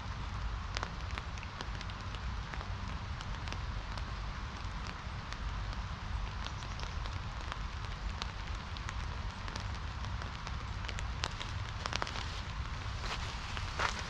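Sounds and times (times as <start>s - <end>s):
raindrops ticking: 0.0s - 14.0s
steady rain rush: 0.0s - 14.0s.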